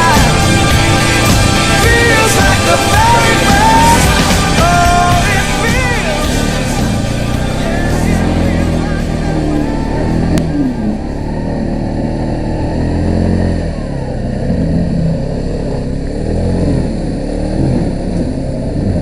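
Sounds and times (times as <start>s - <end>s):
quad bike engine revving: 0.0s - 19.0s.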